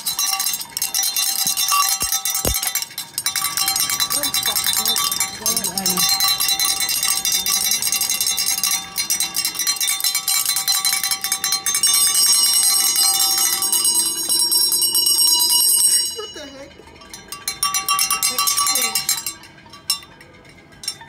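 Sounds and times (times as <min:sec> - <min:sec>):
cowbell shaken rapidly: 0:00.0 - 0:21.0.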